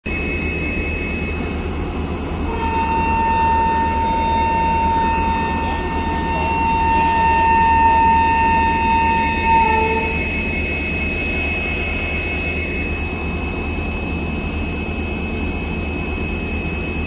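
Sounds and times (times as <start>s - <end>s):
high whine: 0.1s - 17.0s
train rumble: 0.1s - 17.0s.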